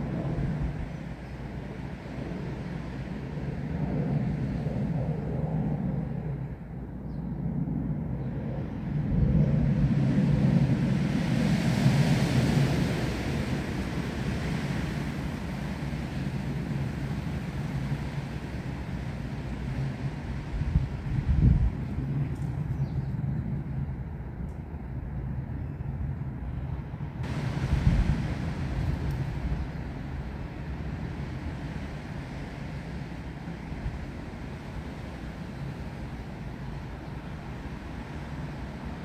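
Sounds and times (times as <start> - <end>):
wind gusting through trees: 0.0 - 39.0.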